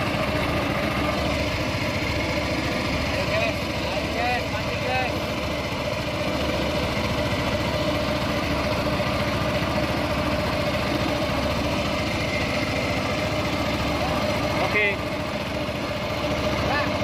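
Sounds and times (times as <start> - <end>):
small outboard engine running: 0.0 - 17.0.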